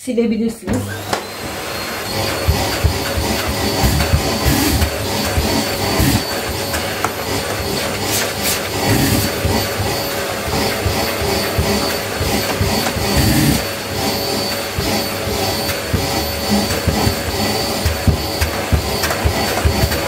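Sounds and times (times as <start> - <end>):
vacuum cleaner whining: 0.6 - 20.0
low bumps of vacuum head: 1.2 - 20.0.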